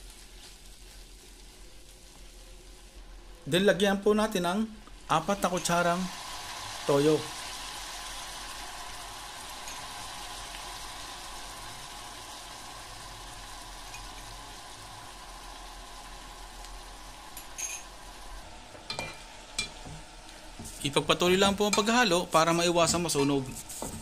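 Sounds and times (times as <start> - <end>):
food sizzling in a pot: 0.0 - 24.0.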